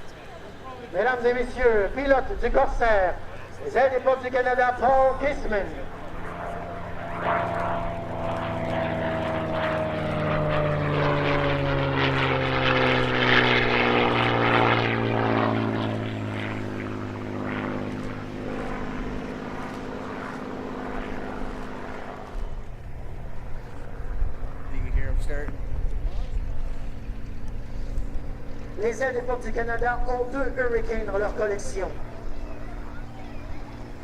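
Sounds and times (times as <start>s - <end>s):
propeller aircraft flying past: 0.0s - 34.0s.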